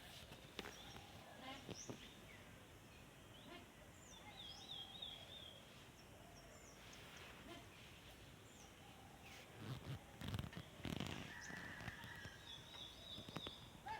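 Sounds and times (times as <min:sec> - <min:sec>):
faint bird chirping: 0:00.0 - 0:13.9
quiet background noise: 0:00.0 - 0:13.9.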